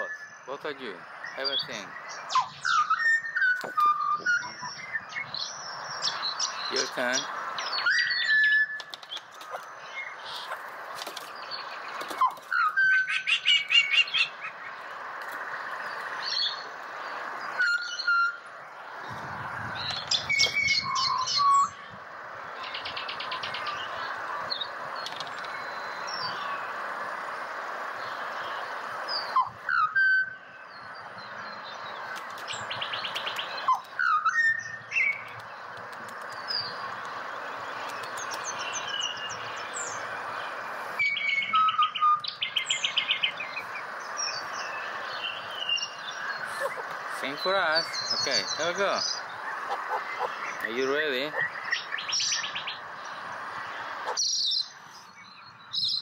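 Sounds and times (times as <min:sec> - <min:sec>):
fluty whistled bird calls: 0:00.0 - 0:10.6, 0:11.2 - 0:14.8, 0:15.8 - 0:18.6, 0:19.2 - 0:22.0, 0:22.6 - 0:26.8, 0:28.0 - 0:56.0
steady background haze: 0:04.6 - 0:55.2.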